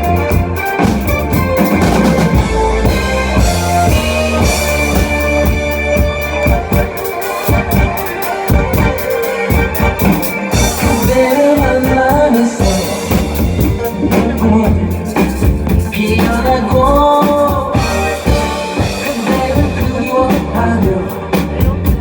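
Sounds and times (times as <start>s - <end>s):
band music: 0.0s - 22.0s
drum kit beat: 0.0s - 22.0s.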